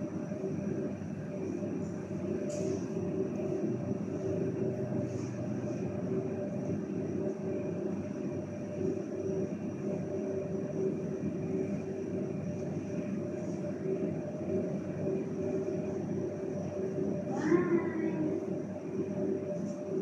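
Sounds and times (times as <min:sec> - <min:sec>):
cooling machinery hum: 0:00.0 - 0:20.0.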